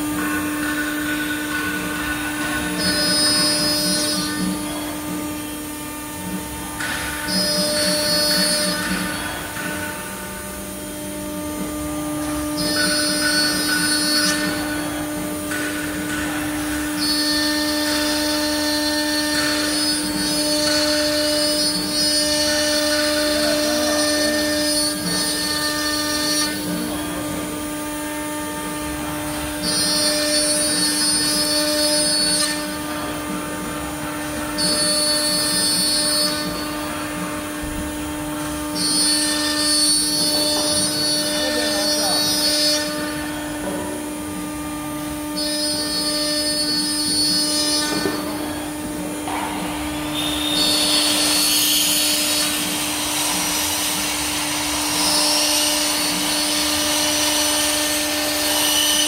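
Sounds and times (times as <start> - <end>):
high-pitched cutting noise: 0.0 - 44.0, 44.6 - 59.0
router spindle whine: 0.0 - 59.0.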